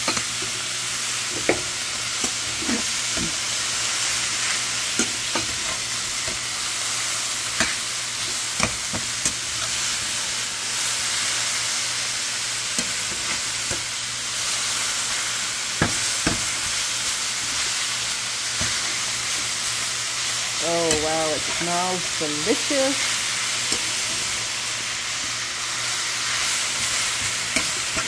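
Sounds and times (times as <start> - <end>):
vegetables sizzling in a pan: 0.0 - 28.0.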